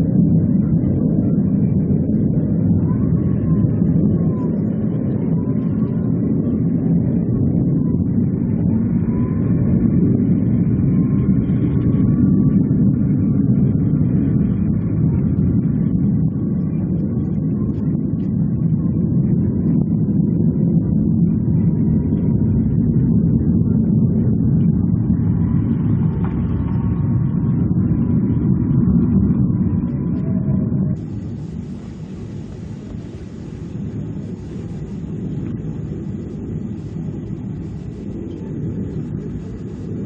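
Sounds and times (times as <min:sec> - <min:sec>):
aircraft engines rumbling: 0:00.0 - 0:40.0
faint high whine: 0:00.0 - 0:40.0.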